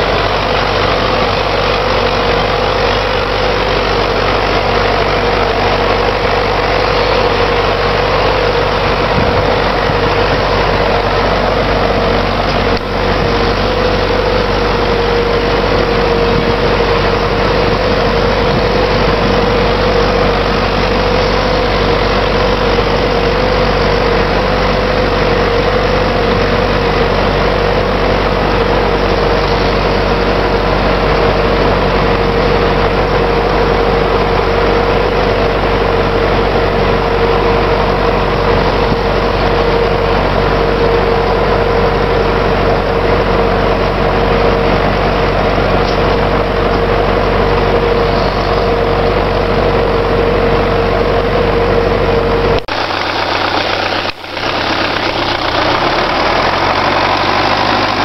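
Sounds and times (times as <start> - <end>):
steady hum: 0.0 - 55.7
tractor diesel engine running: 0.0 - 58.0.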